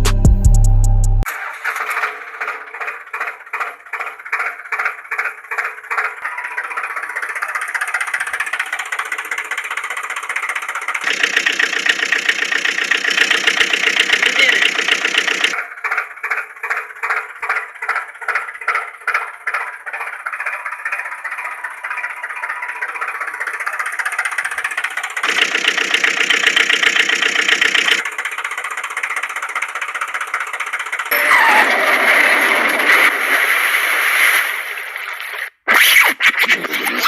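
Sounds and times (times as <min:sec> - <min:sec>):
engine chugging: 0:00.0 - 0:33.4.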